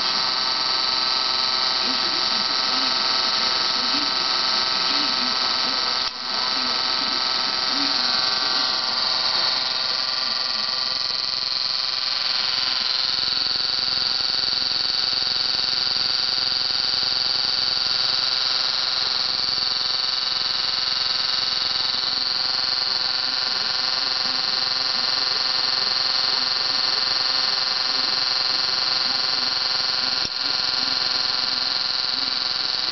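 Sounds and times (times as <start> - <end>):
high-pitched electrical buzz: 0.0 - 32.9.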